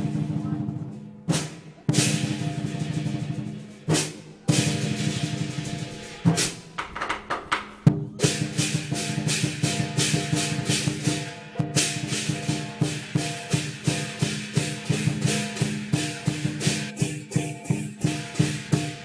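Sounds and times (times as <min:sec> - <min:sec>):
cymbals clashing: 0:00.0 - 0:06.8, 0:07.7 - 0:19.0
drum beating a steady rhythm: 0:00.0 - 0:19.0.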